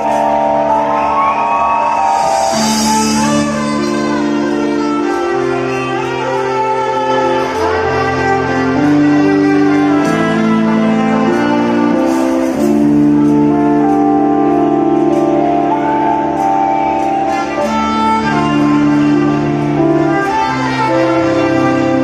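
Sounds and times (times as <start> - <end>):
bass line: 0.0 - 22.0
keyboard chords: 0.0 - 22.0
violin playing slow melody: 0.0 - 22.0.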